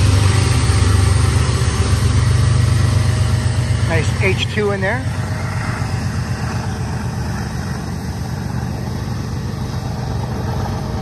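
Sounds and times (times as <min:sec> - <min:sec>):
diesel locomotives pulling away: 0:00.0 - 0:11.0
train cars rumbling on rails: 0:00.0 - 0:11.0.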